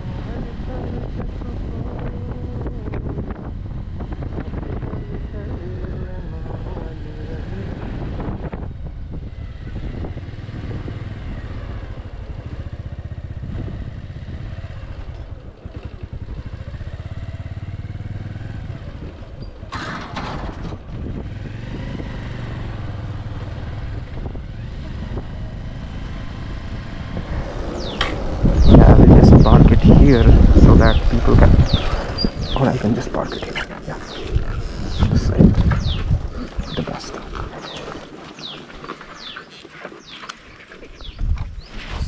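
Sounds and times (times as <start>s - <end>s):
motorcycle engine running: 0.0s - 40.3s.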